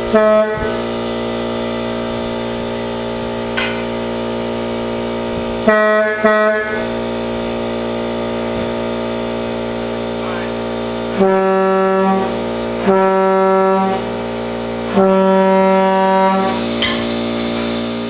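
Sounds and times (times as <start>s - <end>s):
air horn chord: 0.0s - 18.0s
short air horn blasts: 0.0s - 18.0s.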